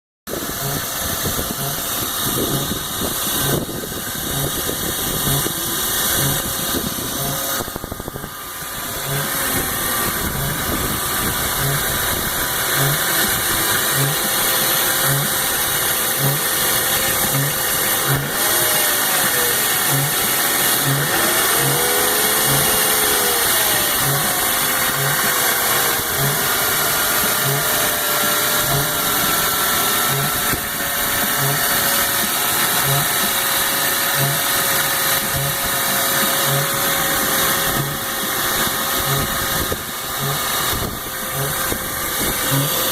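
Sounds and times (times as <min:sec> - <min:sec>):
car engine idling: 0:00.3 - 0:42.9
low pulsing note: 0:00.3 - 0:42.9
wavering sliding tone: 0:00.4 - 0:42.9.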